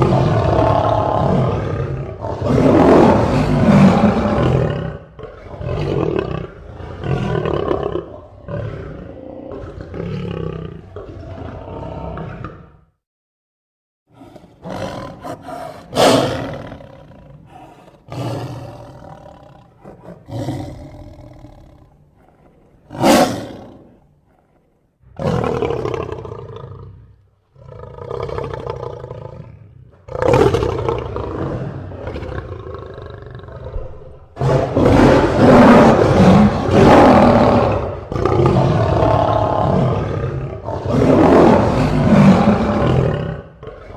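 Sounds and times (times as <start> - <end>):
big cat roars and growls: 0.0 - 13.0, 14.1 - 43.9.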